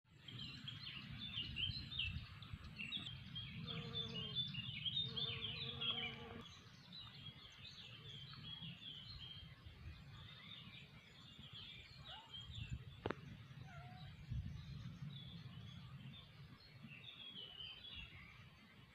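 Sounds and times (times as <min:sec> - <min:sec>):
songbirds chirping and trilling: 0:00.1 - 0:18.9.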